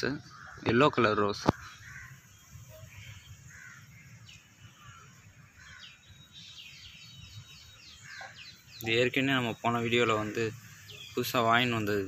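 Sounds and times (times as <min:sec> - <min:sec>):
faint birds calling: 0:00.0 - 0:12.0.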